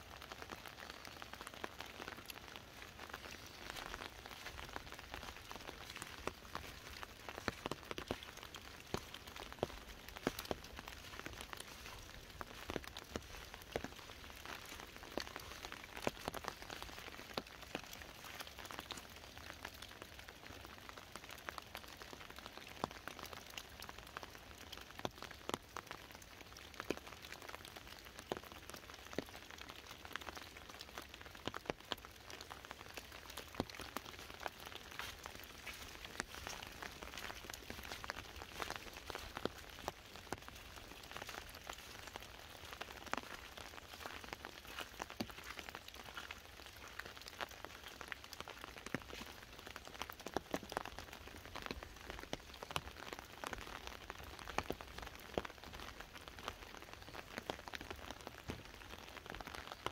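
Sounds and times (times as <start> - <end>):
rain pattering on an umbrella: 0.0 - 59.9.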